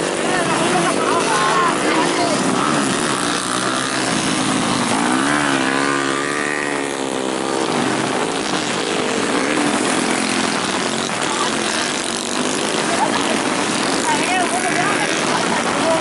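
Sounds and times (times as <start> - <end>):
racing motorcycles revving: 0.0 - 16.0.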